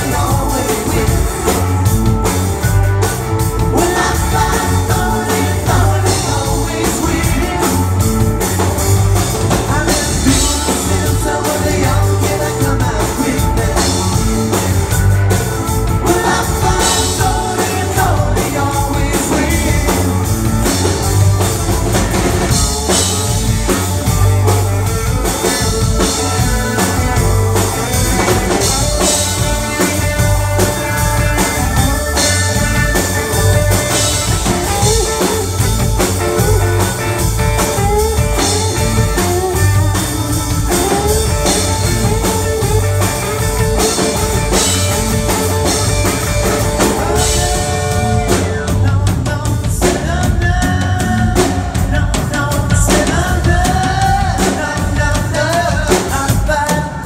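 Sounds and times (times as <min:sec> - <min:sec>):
man singing: 0:00.0 - 0:02.3, 0:03.4 - 0:23.9, 0:24.8 - 0:30.2, 0:37.5 - 0:57.0
live rock band playing: 0:00.0 - 0:57.0.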